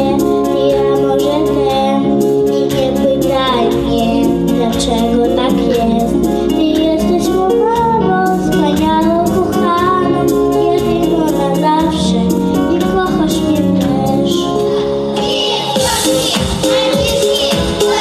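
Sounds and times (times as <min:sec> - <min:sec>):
girl singing into microphone: 0:00.0 - 0:18.0
instrumental accompaniment with beat: 0:00.0 - 0:18.0.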